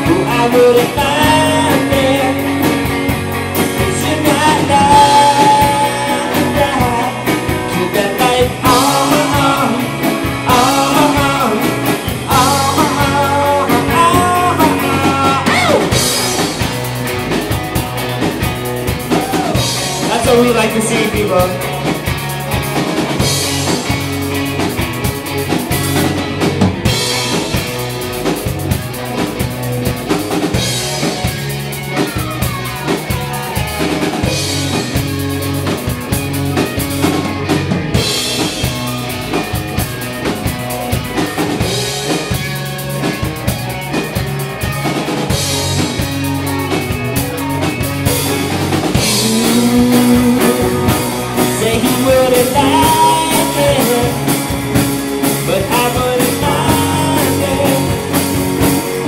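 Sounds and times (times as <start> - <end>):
drum kit with snare rimshots: 0.0 - 59.0
live rock band playing: 0.0 - 59.0.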